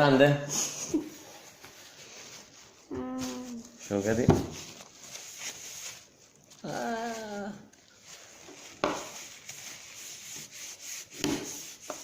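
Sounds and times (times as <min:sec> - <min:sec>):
slime rubbing and scraping: 0:01.4 - 0:12.0.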